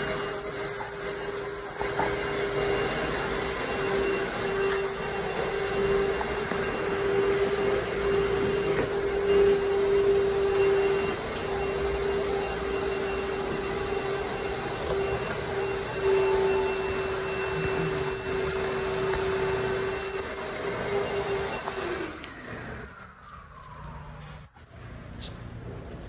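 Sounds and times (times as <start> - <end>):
pressure washer humming: 0.0 - 24.5.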